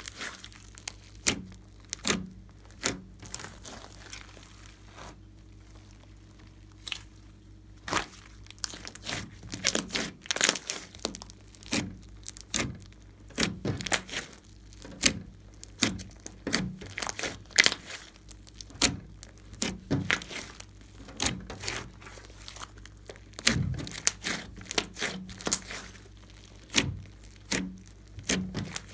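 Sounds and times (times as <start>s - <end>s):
slime popping as kneaded: 0.0s - 5.2s, 5.8s - 28.9s.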